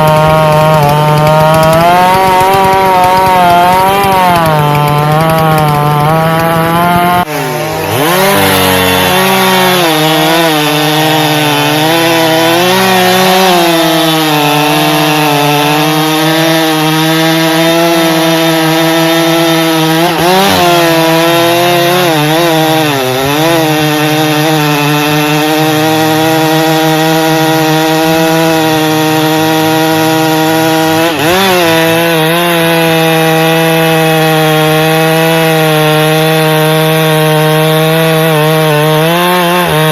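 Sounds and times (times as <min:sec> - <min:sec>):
chainsaw cutting into log: 0:00.0 - 0:39.9.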